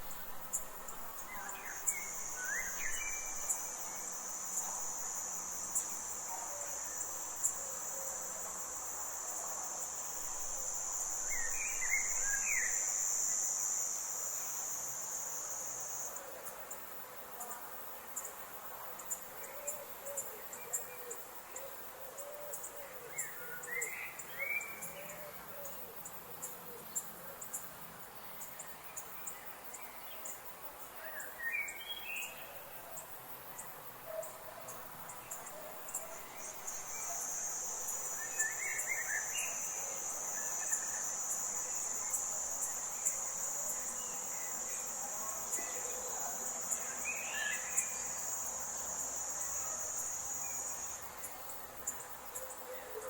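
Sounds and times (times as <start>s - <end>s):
insects ticking chorus: 0.0s - 53.0s
steady high insect buzz: 0.0s - 53.0s.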